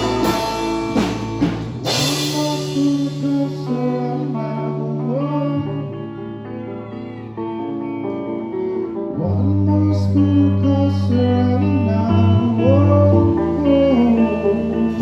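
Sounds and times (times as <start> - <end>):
guitar chords: 0.0 - 15.0
person singing: 0.0 - 15.0.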